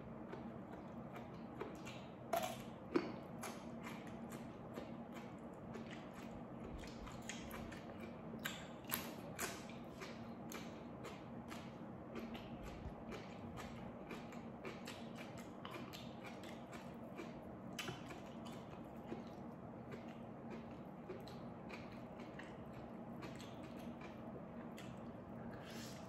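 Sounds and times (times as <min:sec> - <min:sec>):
faint low hum: 0:00.0 - 0:26.0
person chewing food: 0:00.0 - 0:26.0.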